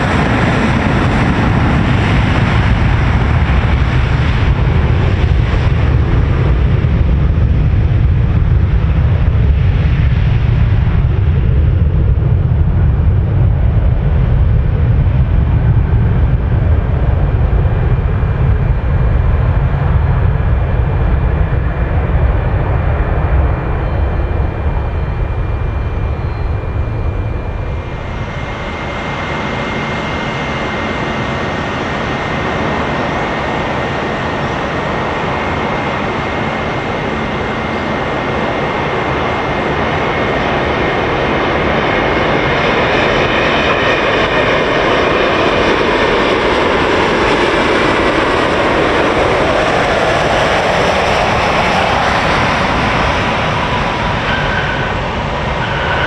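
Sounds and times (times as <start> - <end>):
airliner engines rumbling: 0.0 - 56.0
engine whine: 0.0 - 56.0.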